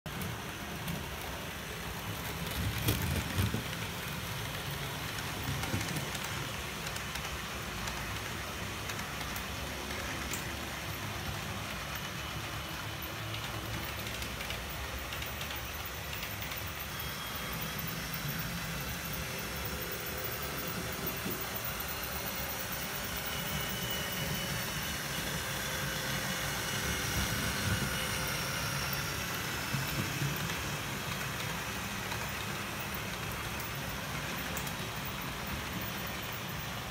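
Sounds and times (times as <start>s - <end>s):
model train motors whirring: 0.1s - 36.9s
faint high whine: 0.4s - 36.9s.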